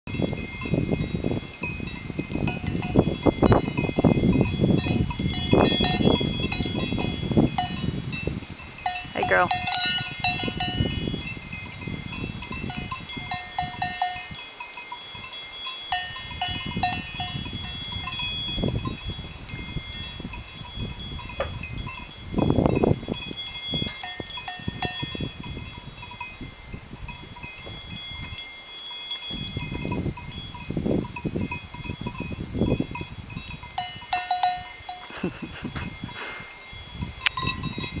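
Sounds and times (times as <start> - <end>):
cowbells clanking and ringing: 0.1 - 38.0.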